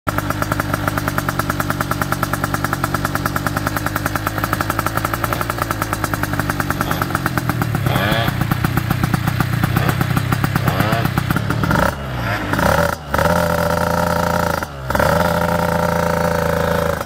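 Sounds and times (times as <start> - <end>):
scooter engine idling: 0.1 - 17.0.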